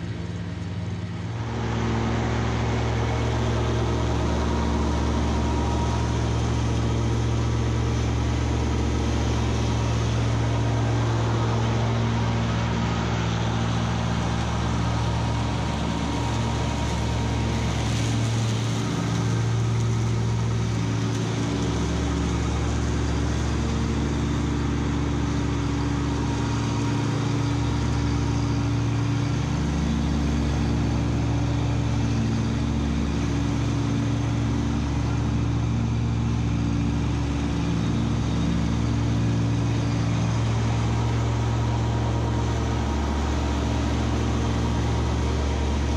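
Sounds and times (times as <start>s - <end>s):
mower cutting tall grass: 0.0s - 45.9s
tractor diesel engine under load: 0.0s - 45.9s.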